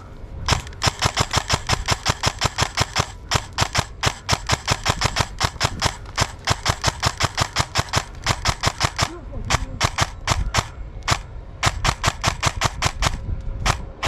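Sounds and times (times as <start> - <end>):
airsoft gun rapid firing: 0.5 - 14.0.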